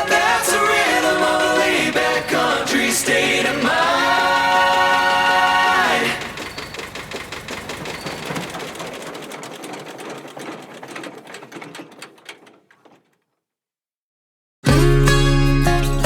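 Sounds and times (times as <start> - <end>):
mechanical ticking clatter: 0.0 - 13.2.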